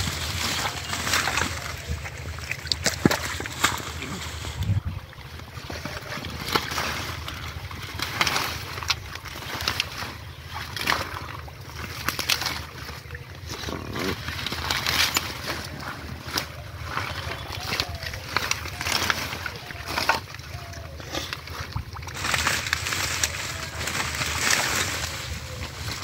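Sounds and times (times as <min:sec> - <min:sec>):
leaves rustling and snapping: 0:00.0 - 0:05.1, 0:05.7 - 0:26.0
low hum: 0:00.0 - 0:26.0.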